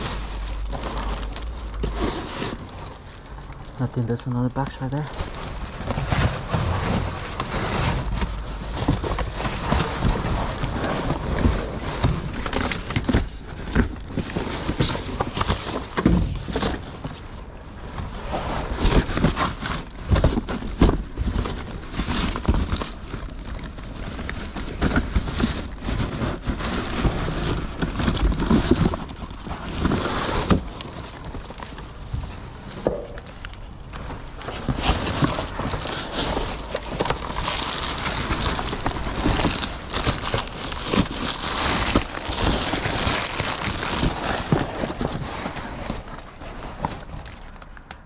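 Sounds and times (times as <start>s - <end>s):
cardboard and plastic rustling: 0.0s - 48.0s.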